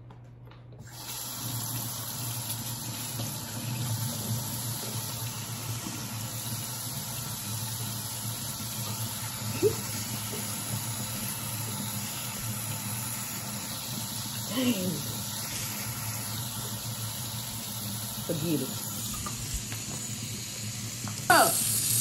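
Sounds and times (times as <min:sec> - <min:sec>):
faucet running into sink: 0:00.8 - 0:22.0.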